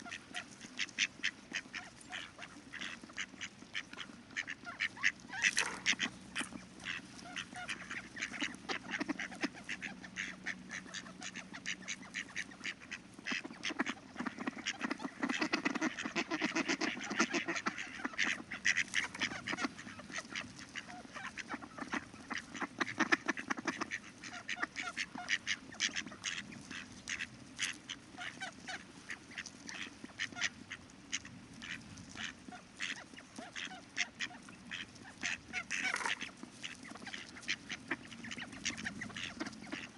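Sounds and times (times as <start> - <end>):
ducks quacking: 0.0 - 39.9.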